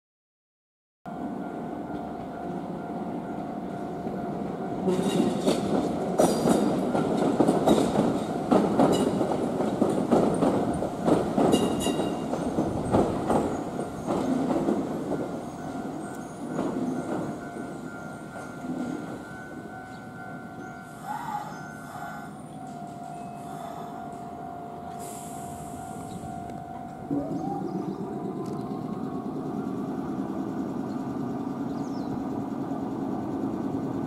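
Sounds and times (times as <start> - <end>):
train wheels clacking: 1.9 - 34.0.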